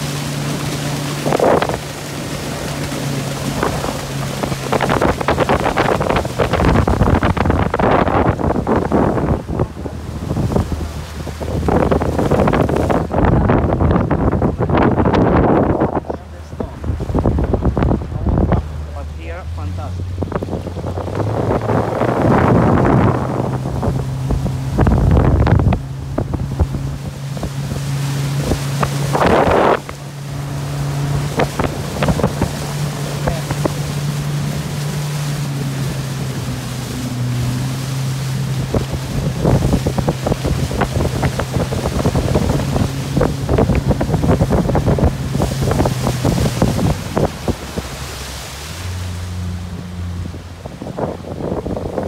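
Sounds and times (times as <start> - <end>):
motorboat engine running: 0.0 - 52.0
water splashing along hull: 0.0 - 52.0
wind gusting on microphone: 0.0 - 52.0.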